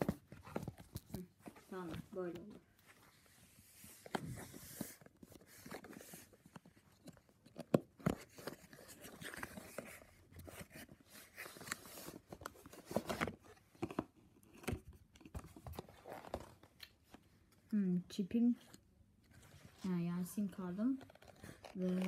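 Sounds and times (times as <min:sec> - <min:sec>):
cardboard and paper rustling: 0:00.0 - 0:17.6, 0:18.4 - 0:22.0.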